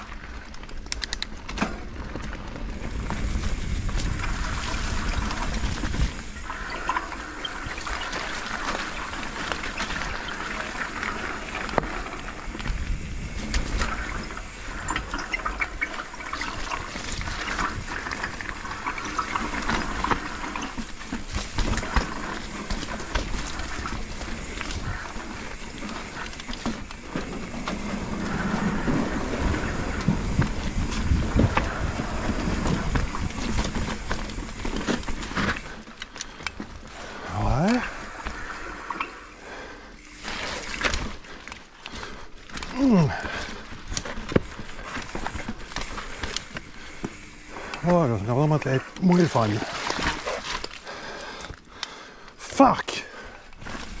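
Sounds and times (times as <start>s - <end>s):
bike rattling over bumps: 0.0s - 54.0s
bike tyre noise on dirt: 0.0s - 54.0s.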